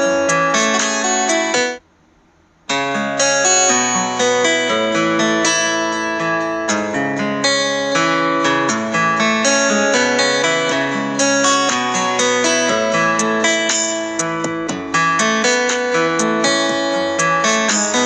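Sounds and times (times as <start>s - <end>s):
plucked guitar music: 0.0s - 1.8s, 2.7s - 18.0s.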